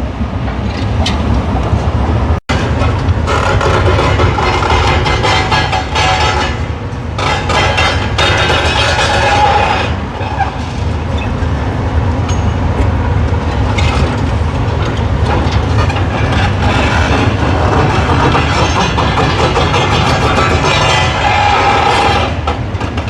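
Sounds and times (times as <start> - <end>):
excavator diesel engine rumbling: 0.0 - 23.0.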